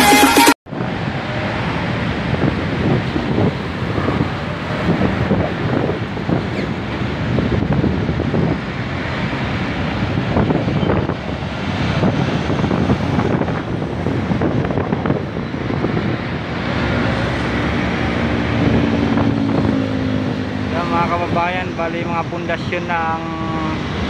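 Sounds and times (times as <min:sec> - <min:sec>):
low engine hum: 0:00.7 - 0:24.0
wind buffeting microphone: 0:00.7 - 0:24.0.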